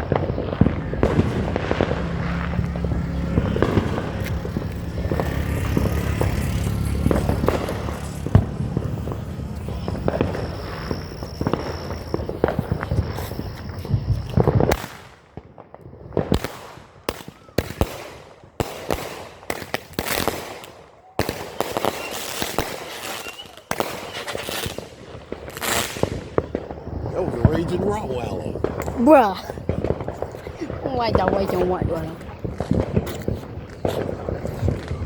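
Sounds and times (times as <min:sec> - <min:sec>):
firework crackling: 0:00.0 - 0:35.0
sharp echoing firework bangs: 0:00.0 - 0:35.0.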